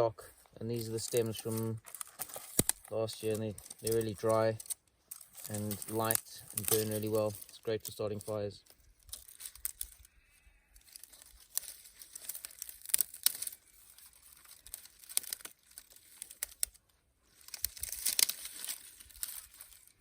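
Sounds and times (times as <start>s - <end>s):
dry stems crackling and snapping: 0.7s - 20.0s.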